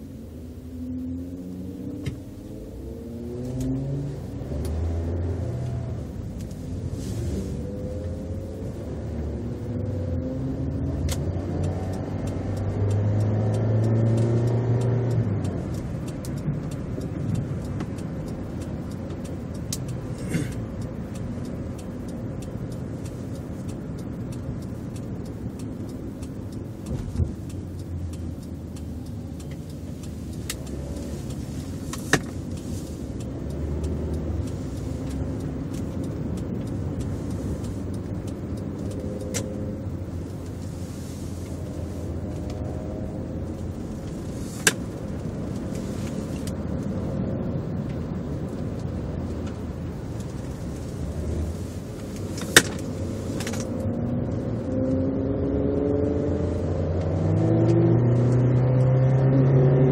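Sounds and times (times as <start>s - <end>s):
car engine and road noise: 0.0s - 59.9s
sharp clicks: 1.9s - 40.8s, 41.4s - 54.7s.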